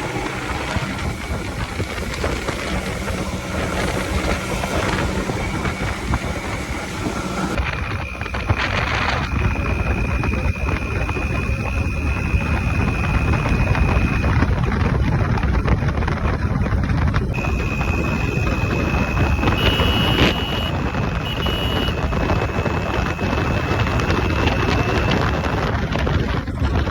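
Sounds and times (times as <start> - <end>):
steady rushing noise: 0.0 - 26.9
two-stroke engine running: 0.0 - 26.9.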